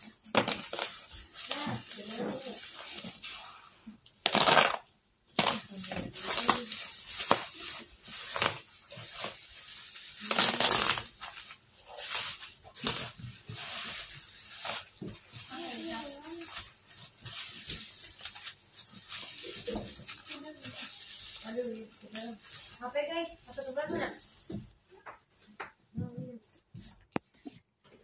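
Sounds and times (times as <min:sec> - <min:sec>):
bubble wrap crinkling: 0:00.0 - 0:27.2.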